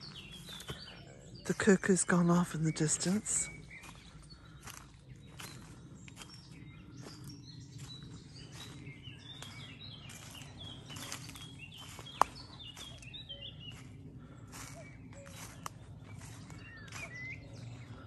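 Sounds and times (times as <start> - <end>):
footsteps on leafy path: 0.0 - 18.0
songbirds chirping and singing: 0.0 - 18.0.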